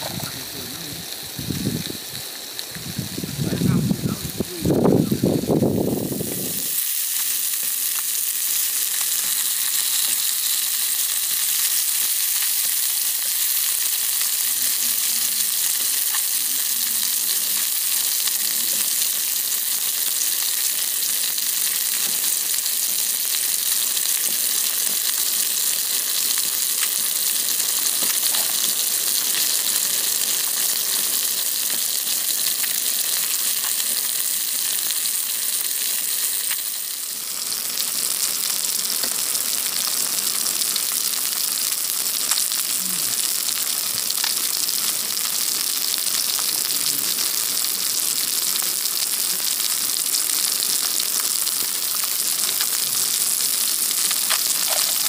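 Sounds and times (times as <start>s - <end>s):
faint crackles: 0.0s - 55.0s
food sizzling in frying: 0.0s - 55.0s.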